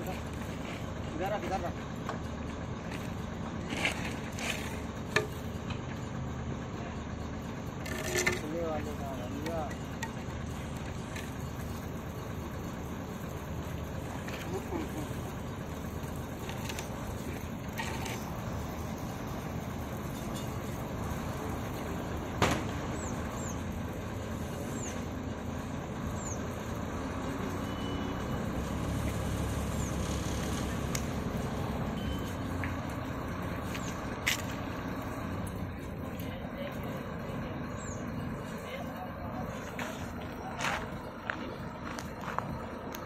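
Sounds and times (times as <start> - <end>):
crane engine idling: 0.0 - 43.0.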